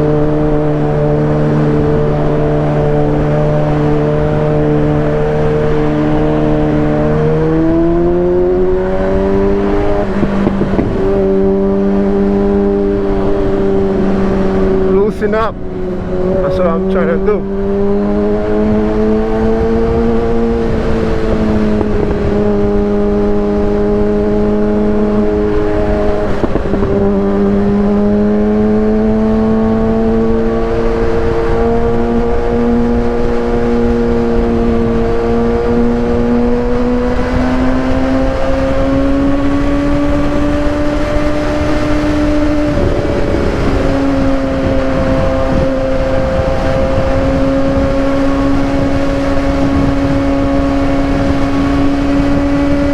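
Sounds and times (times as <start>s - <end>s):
motorcycle engine running: 0.0s - 52.9s
steady rushing noise: 0.0s - 52.9s.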